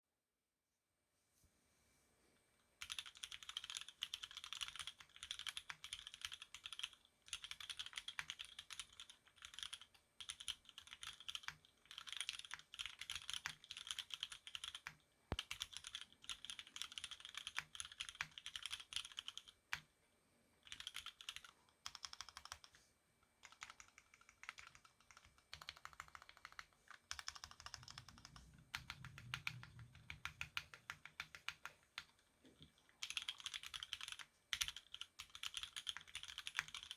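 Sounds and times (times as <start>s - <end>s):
typing on mechanical keyboard: 2.8s - 19.9s, 20.6s - 22.8s, 23.4s - 32.2s, 33.0s - 36.9s.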